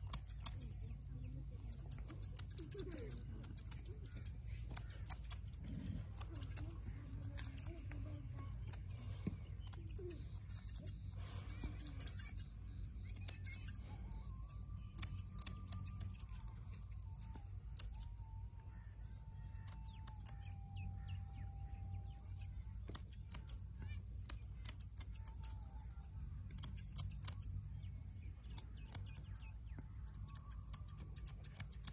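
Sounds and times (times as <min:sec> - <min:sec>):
scissors snipping hair: 0:00.0 - 0:01.0, 0:01.6 - 0:08.0, 0:08.6 - 0:20.5, 0:22.2 - 0:27.5, 0:28.4 - 0:31.9.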